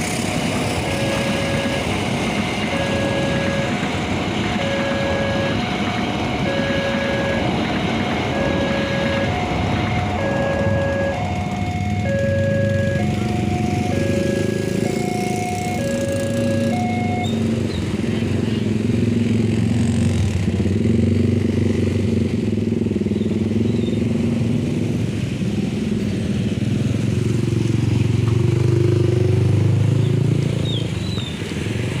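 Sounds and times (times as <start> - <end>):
motorcycle engines passing: 0.0 - 32.0.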